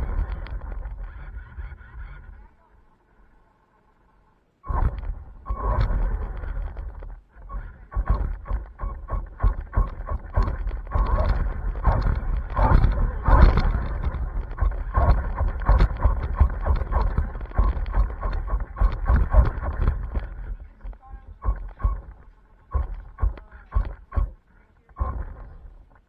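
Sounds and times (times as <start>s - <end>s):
high pulsing whine: 0.0s - 26.0s
rc car rumbling over concrete: 4.6s - 26.0s.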